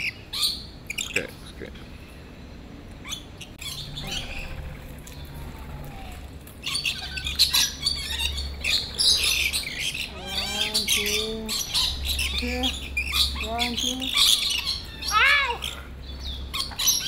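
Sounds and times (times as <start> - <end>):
parrots chirping: 3.0 - 17.0.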